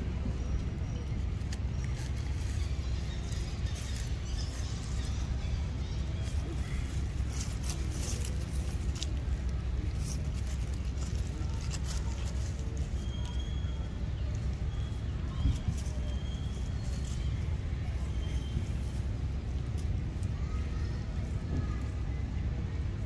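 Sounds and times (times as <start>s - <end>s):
steady low rumble: 0.0s - 23.0s
dry leaves crackling and rustling: 0.1s - 23.0s.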